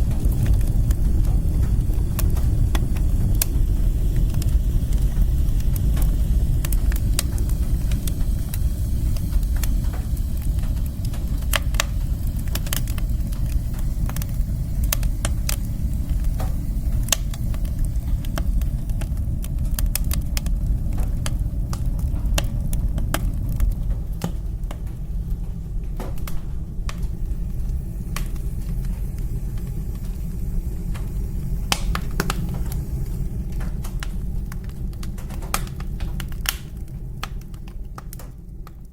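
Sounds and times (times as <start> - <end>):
burning wood crackling and popping: 0.0 - 38.9
woodstove fire rumbling: 0.0 - 38.9.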